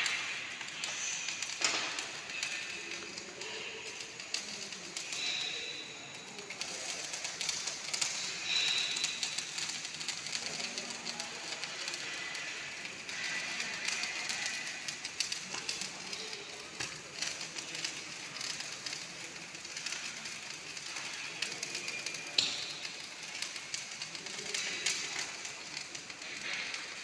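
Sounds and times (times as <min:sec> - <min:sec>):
welding arc crackling: 0:00.0 - 0:27.0.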